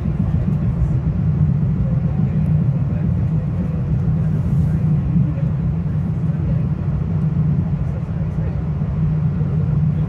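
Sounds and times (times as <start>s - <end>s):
train rumbling from on board: 0.0s - 10.0s.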